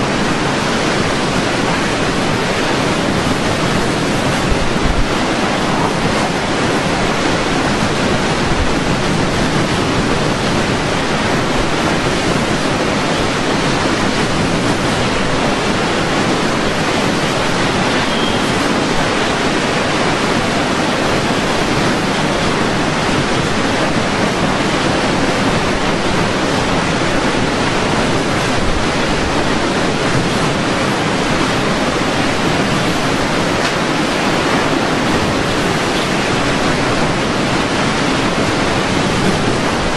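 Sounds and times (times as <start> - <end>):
strong wind blowing: 0.0 - 39.9.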